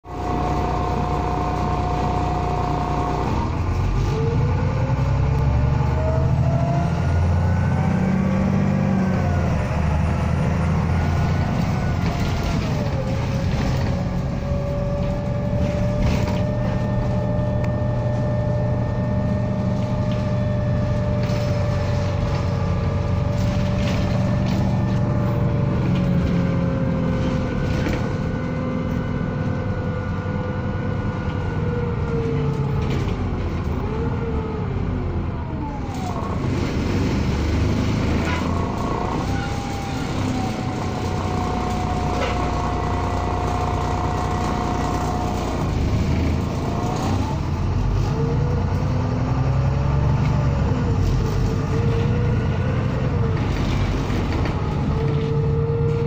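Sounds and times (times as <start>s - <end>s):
bus engine rumble: 0.0s - 56.0s
drivetrain whine: 0.0s - 56.0s.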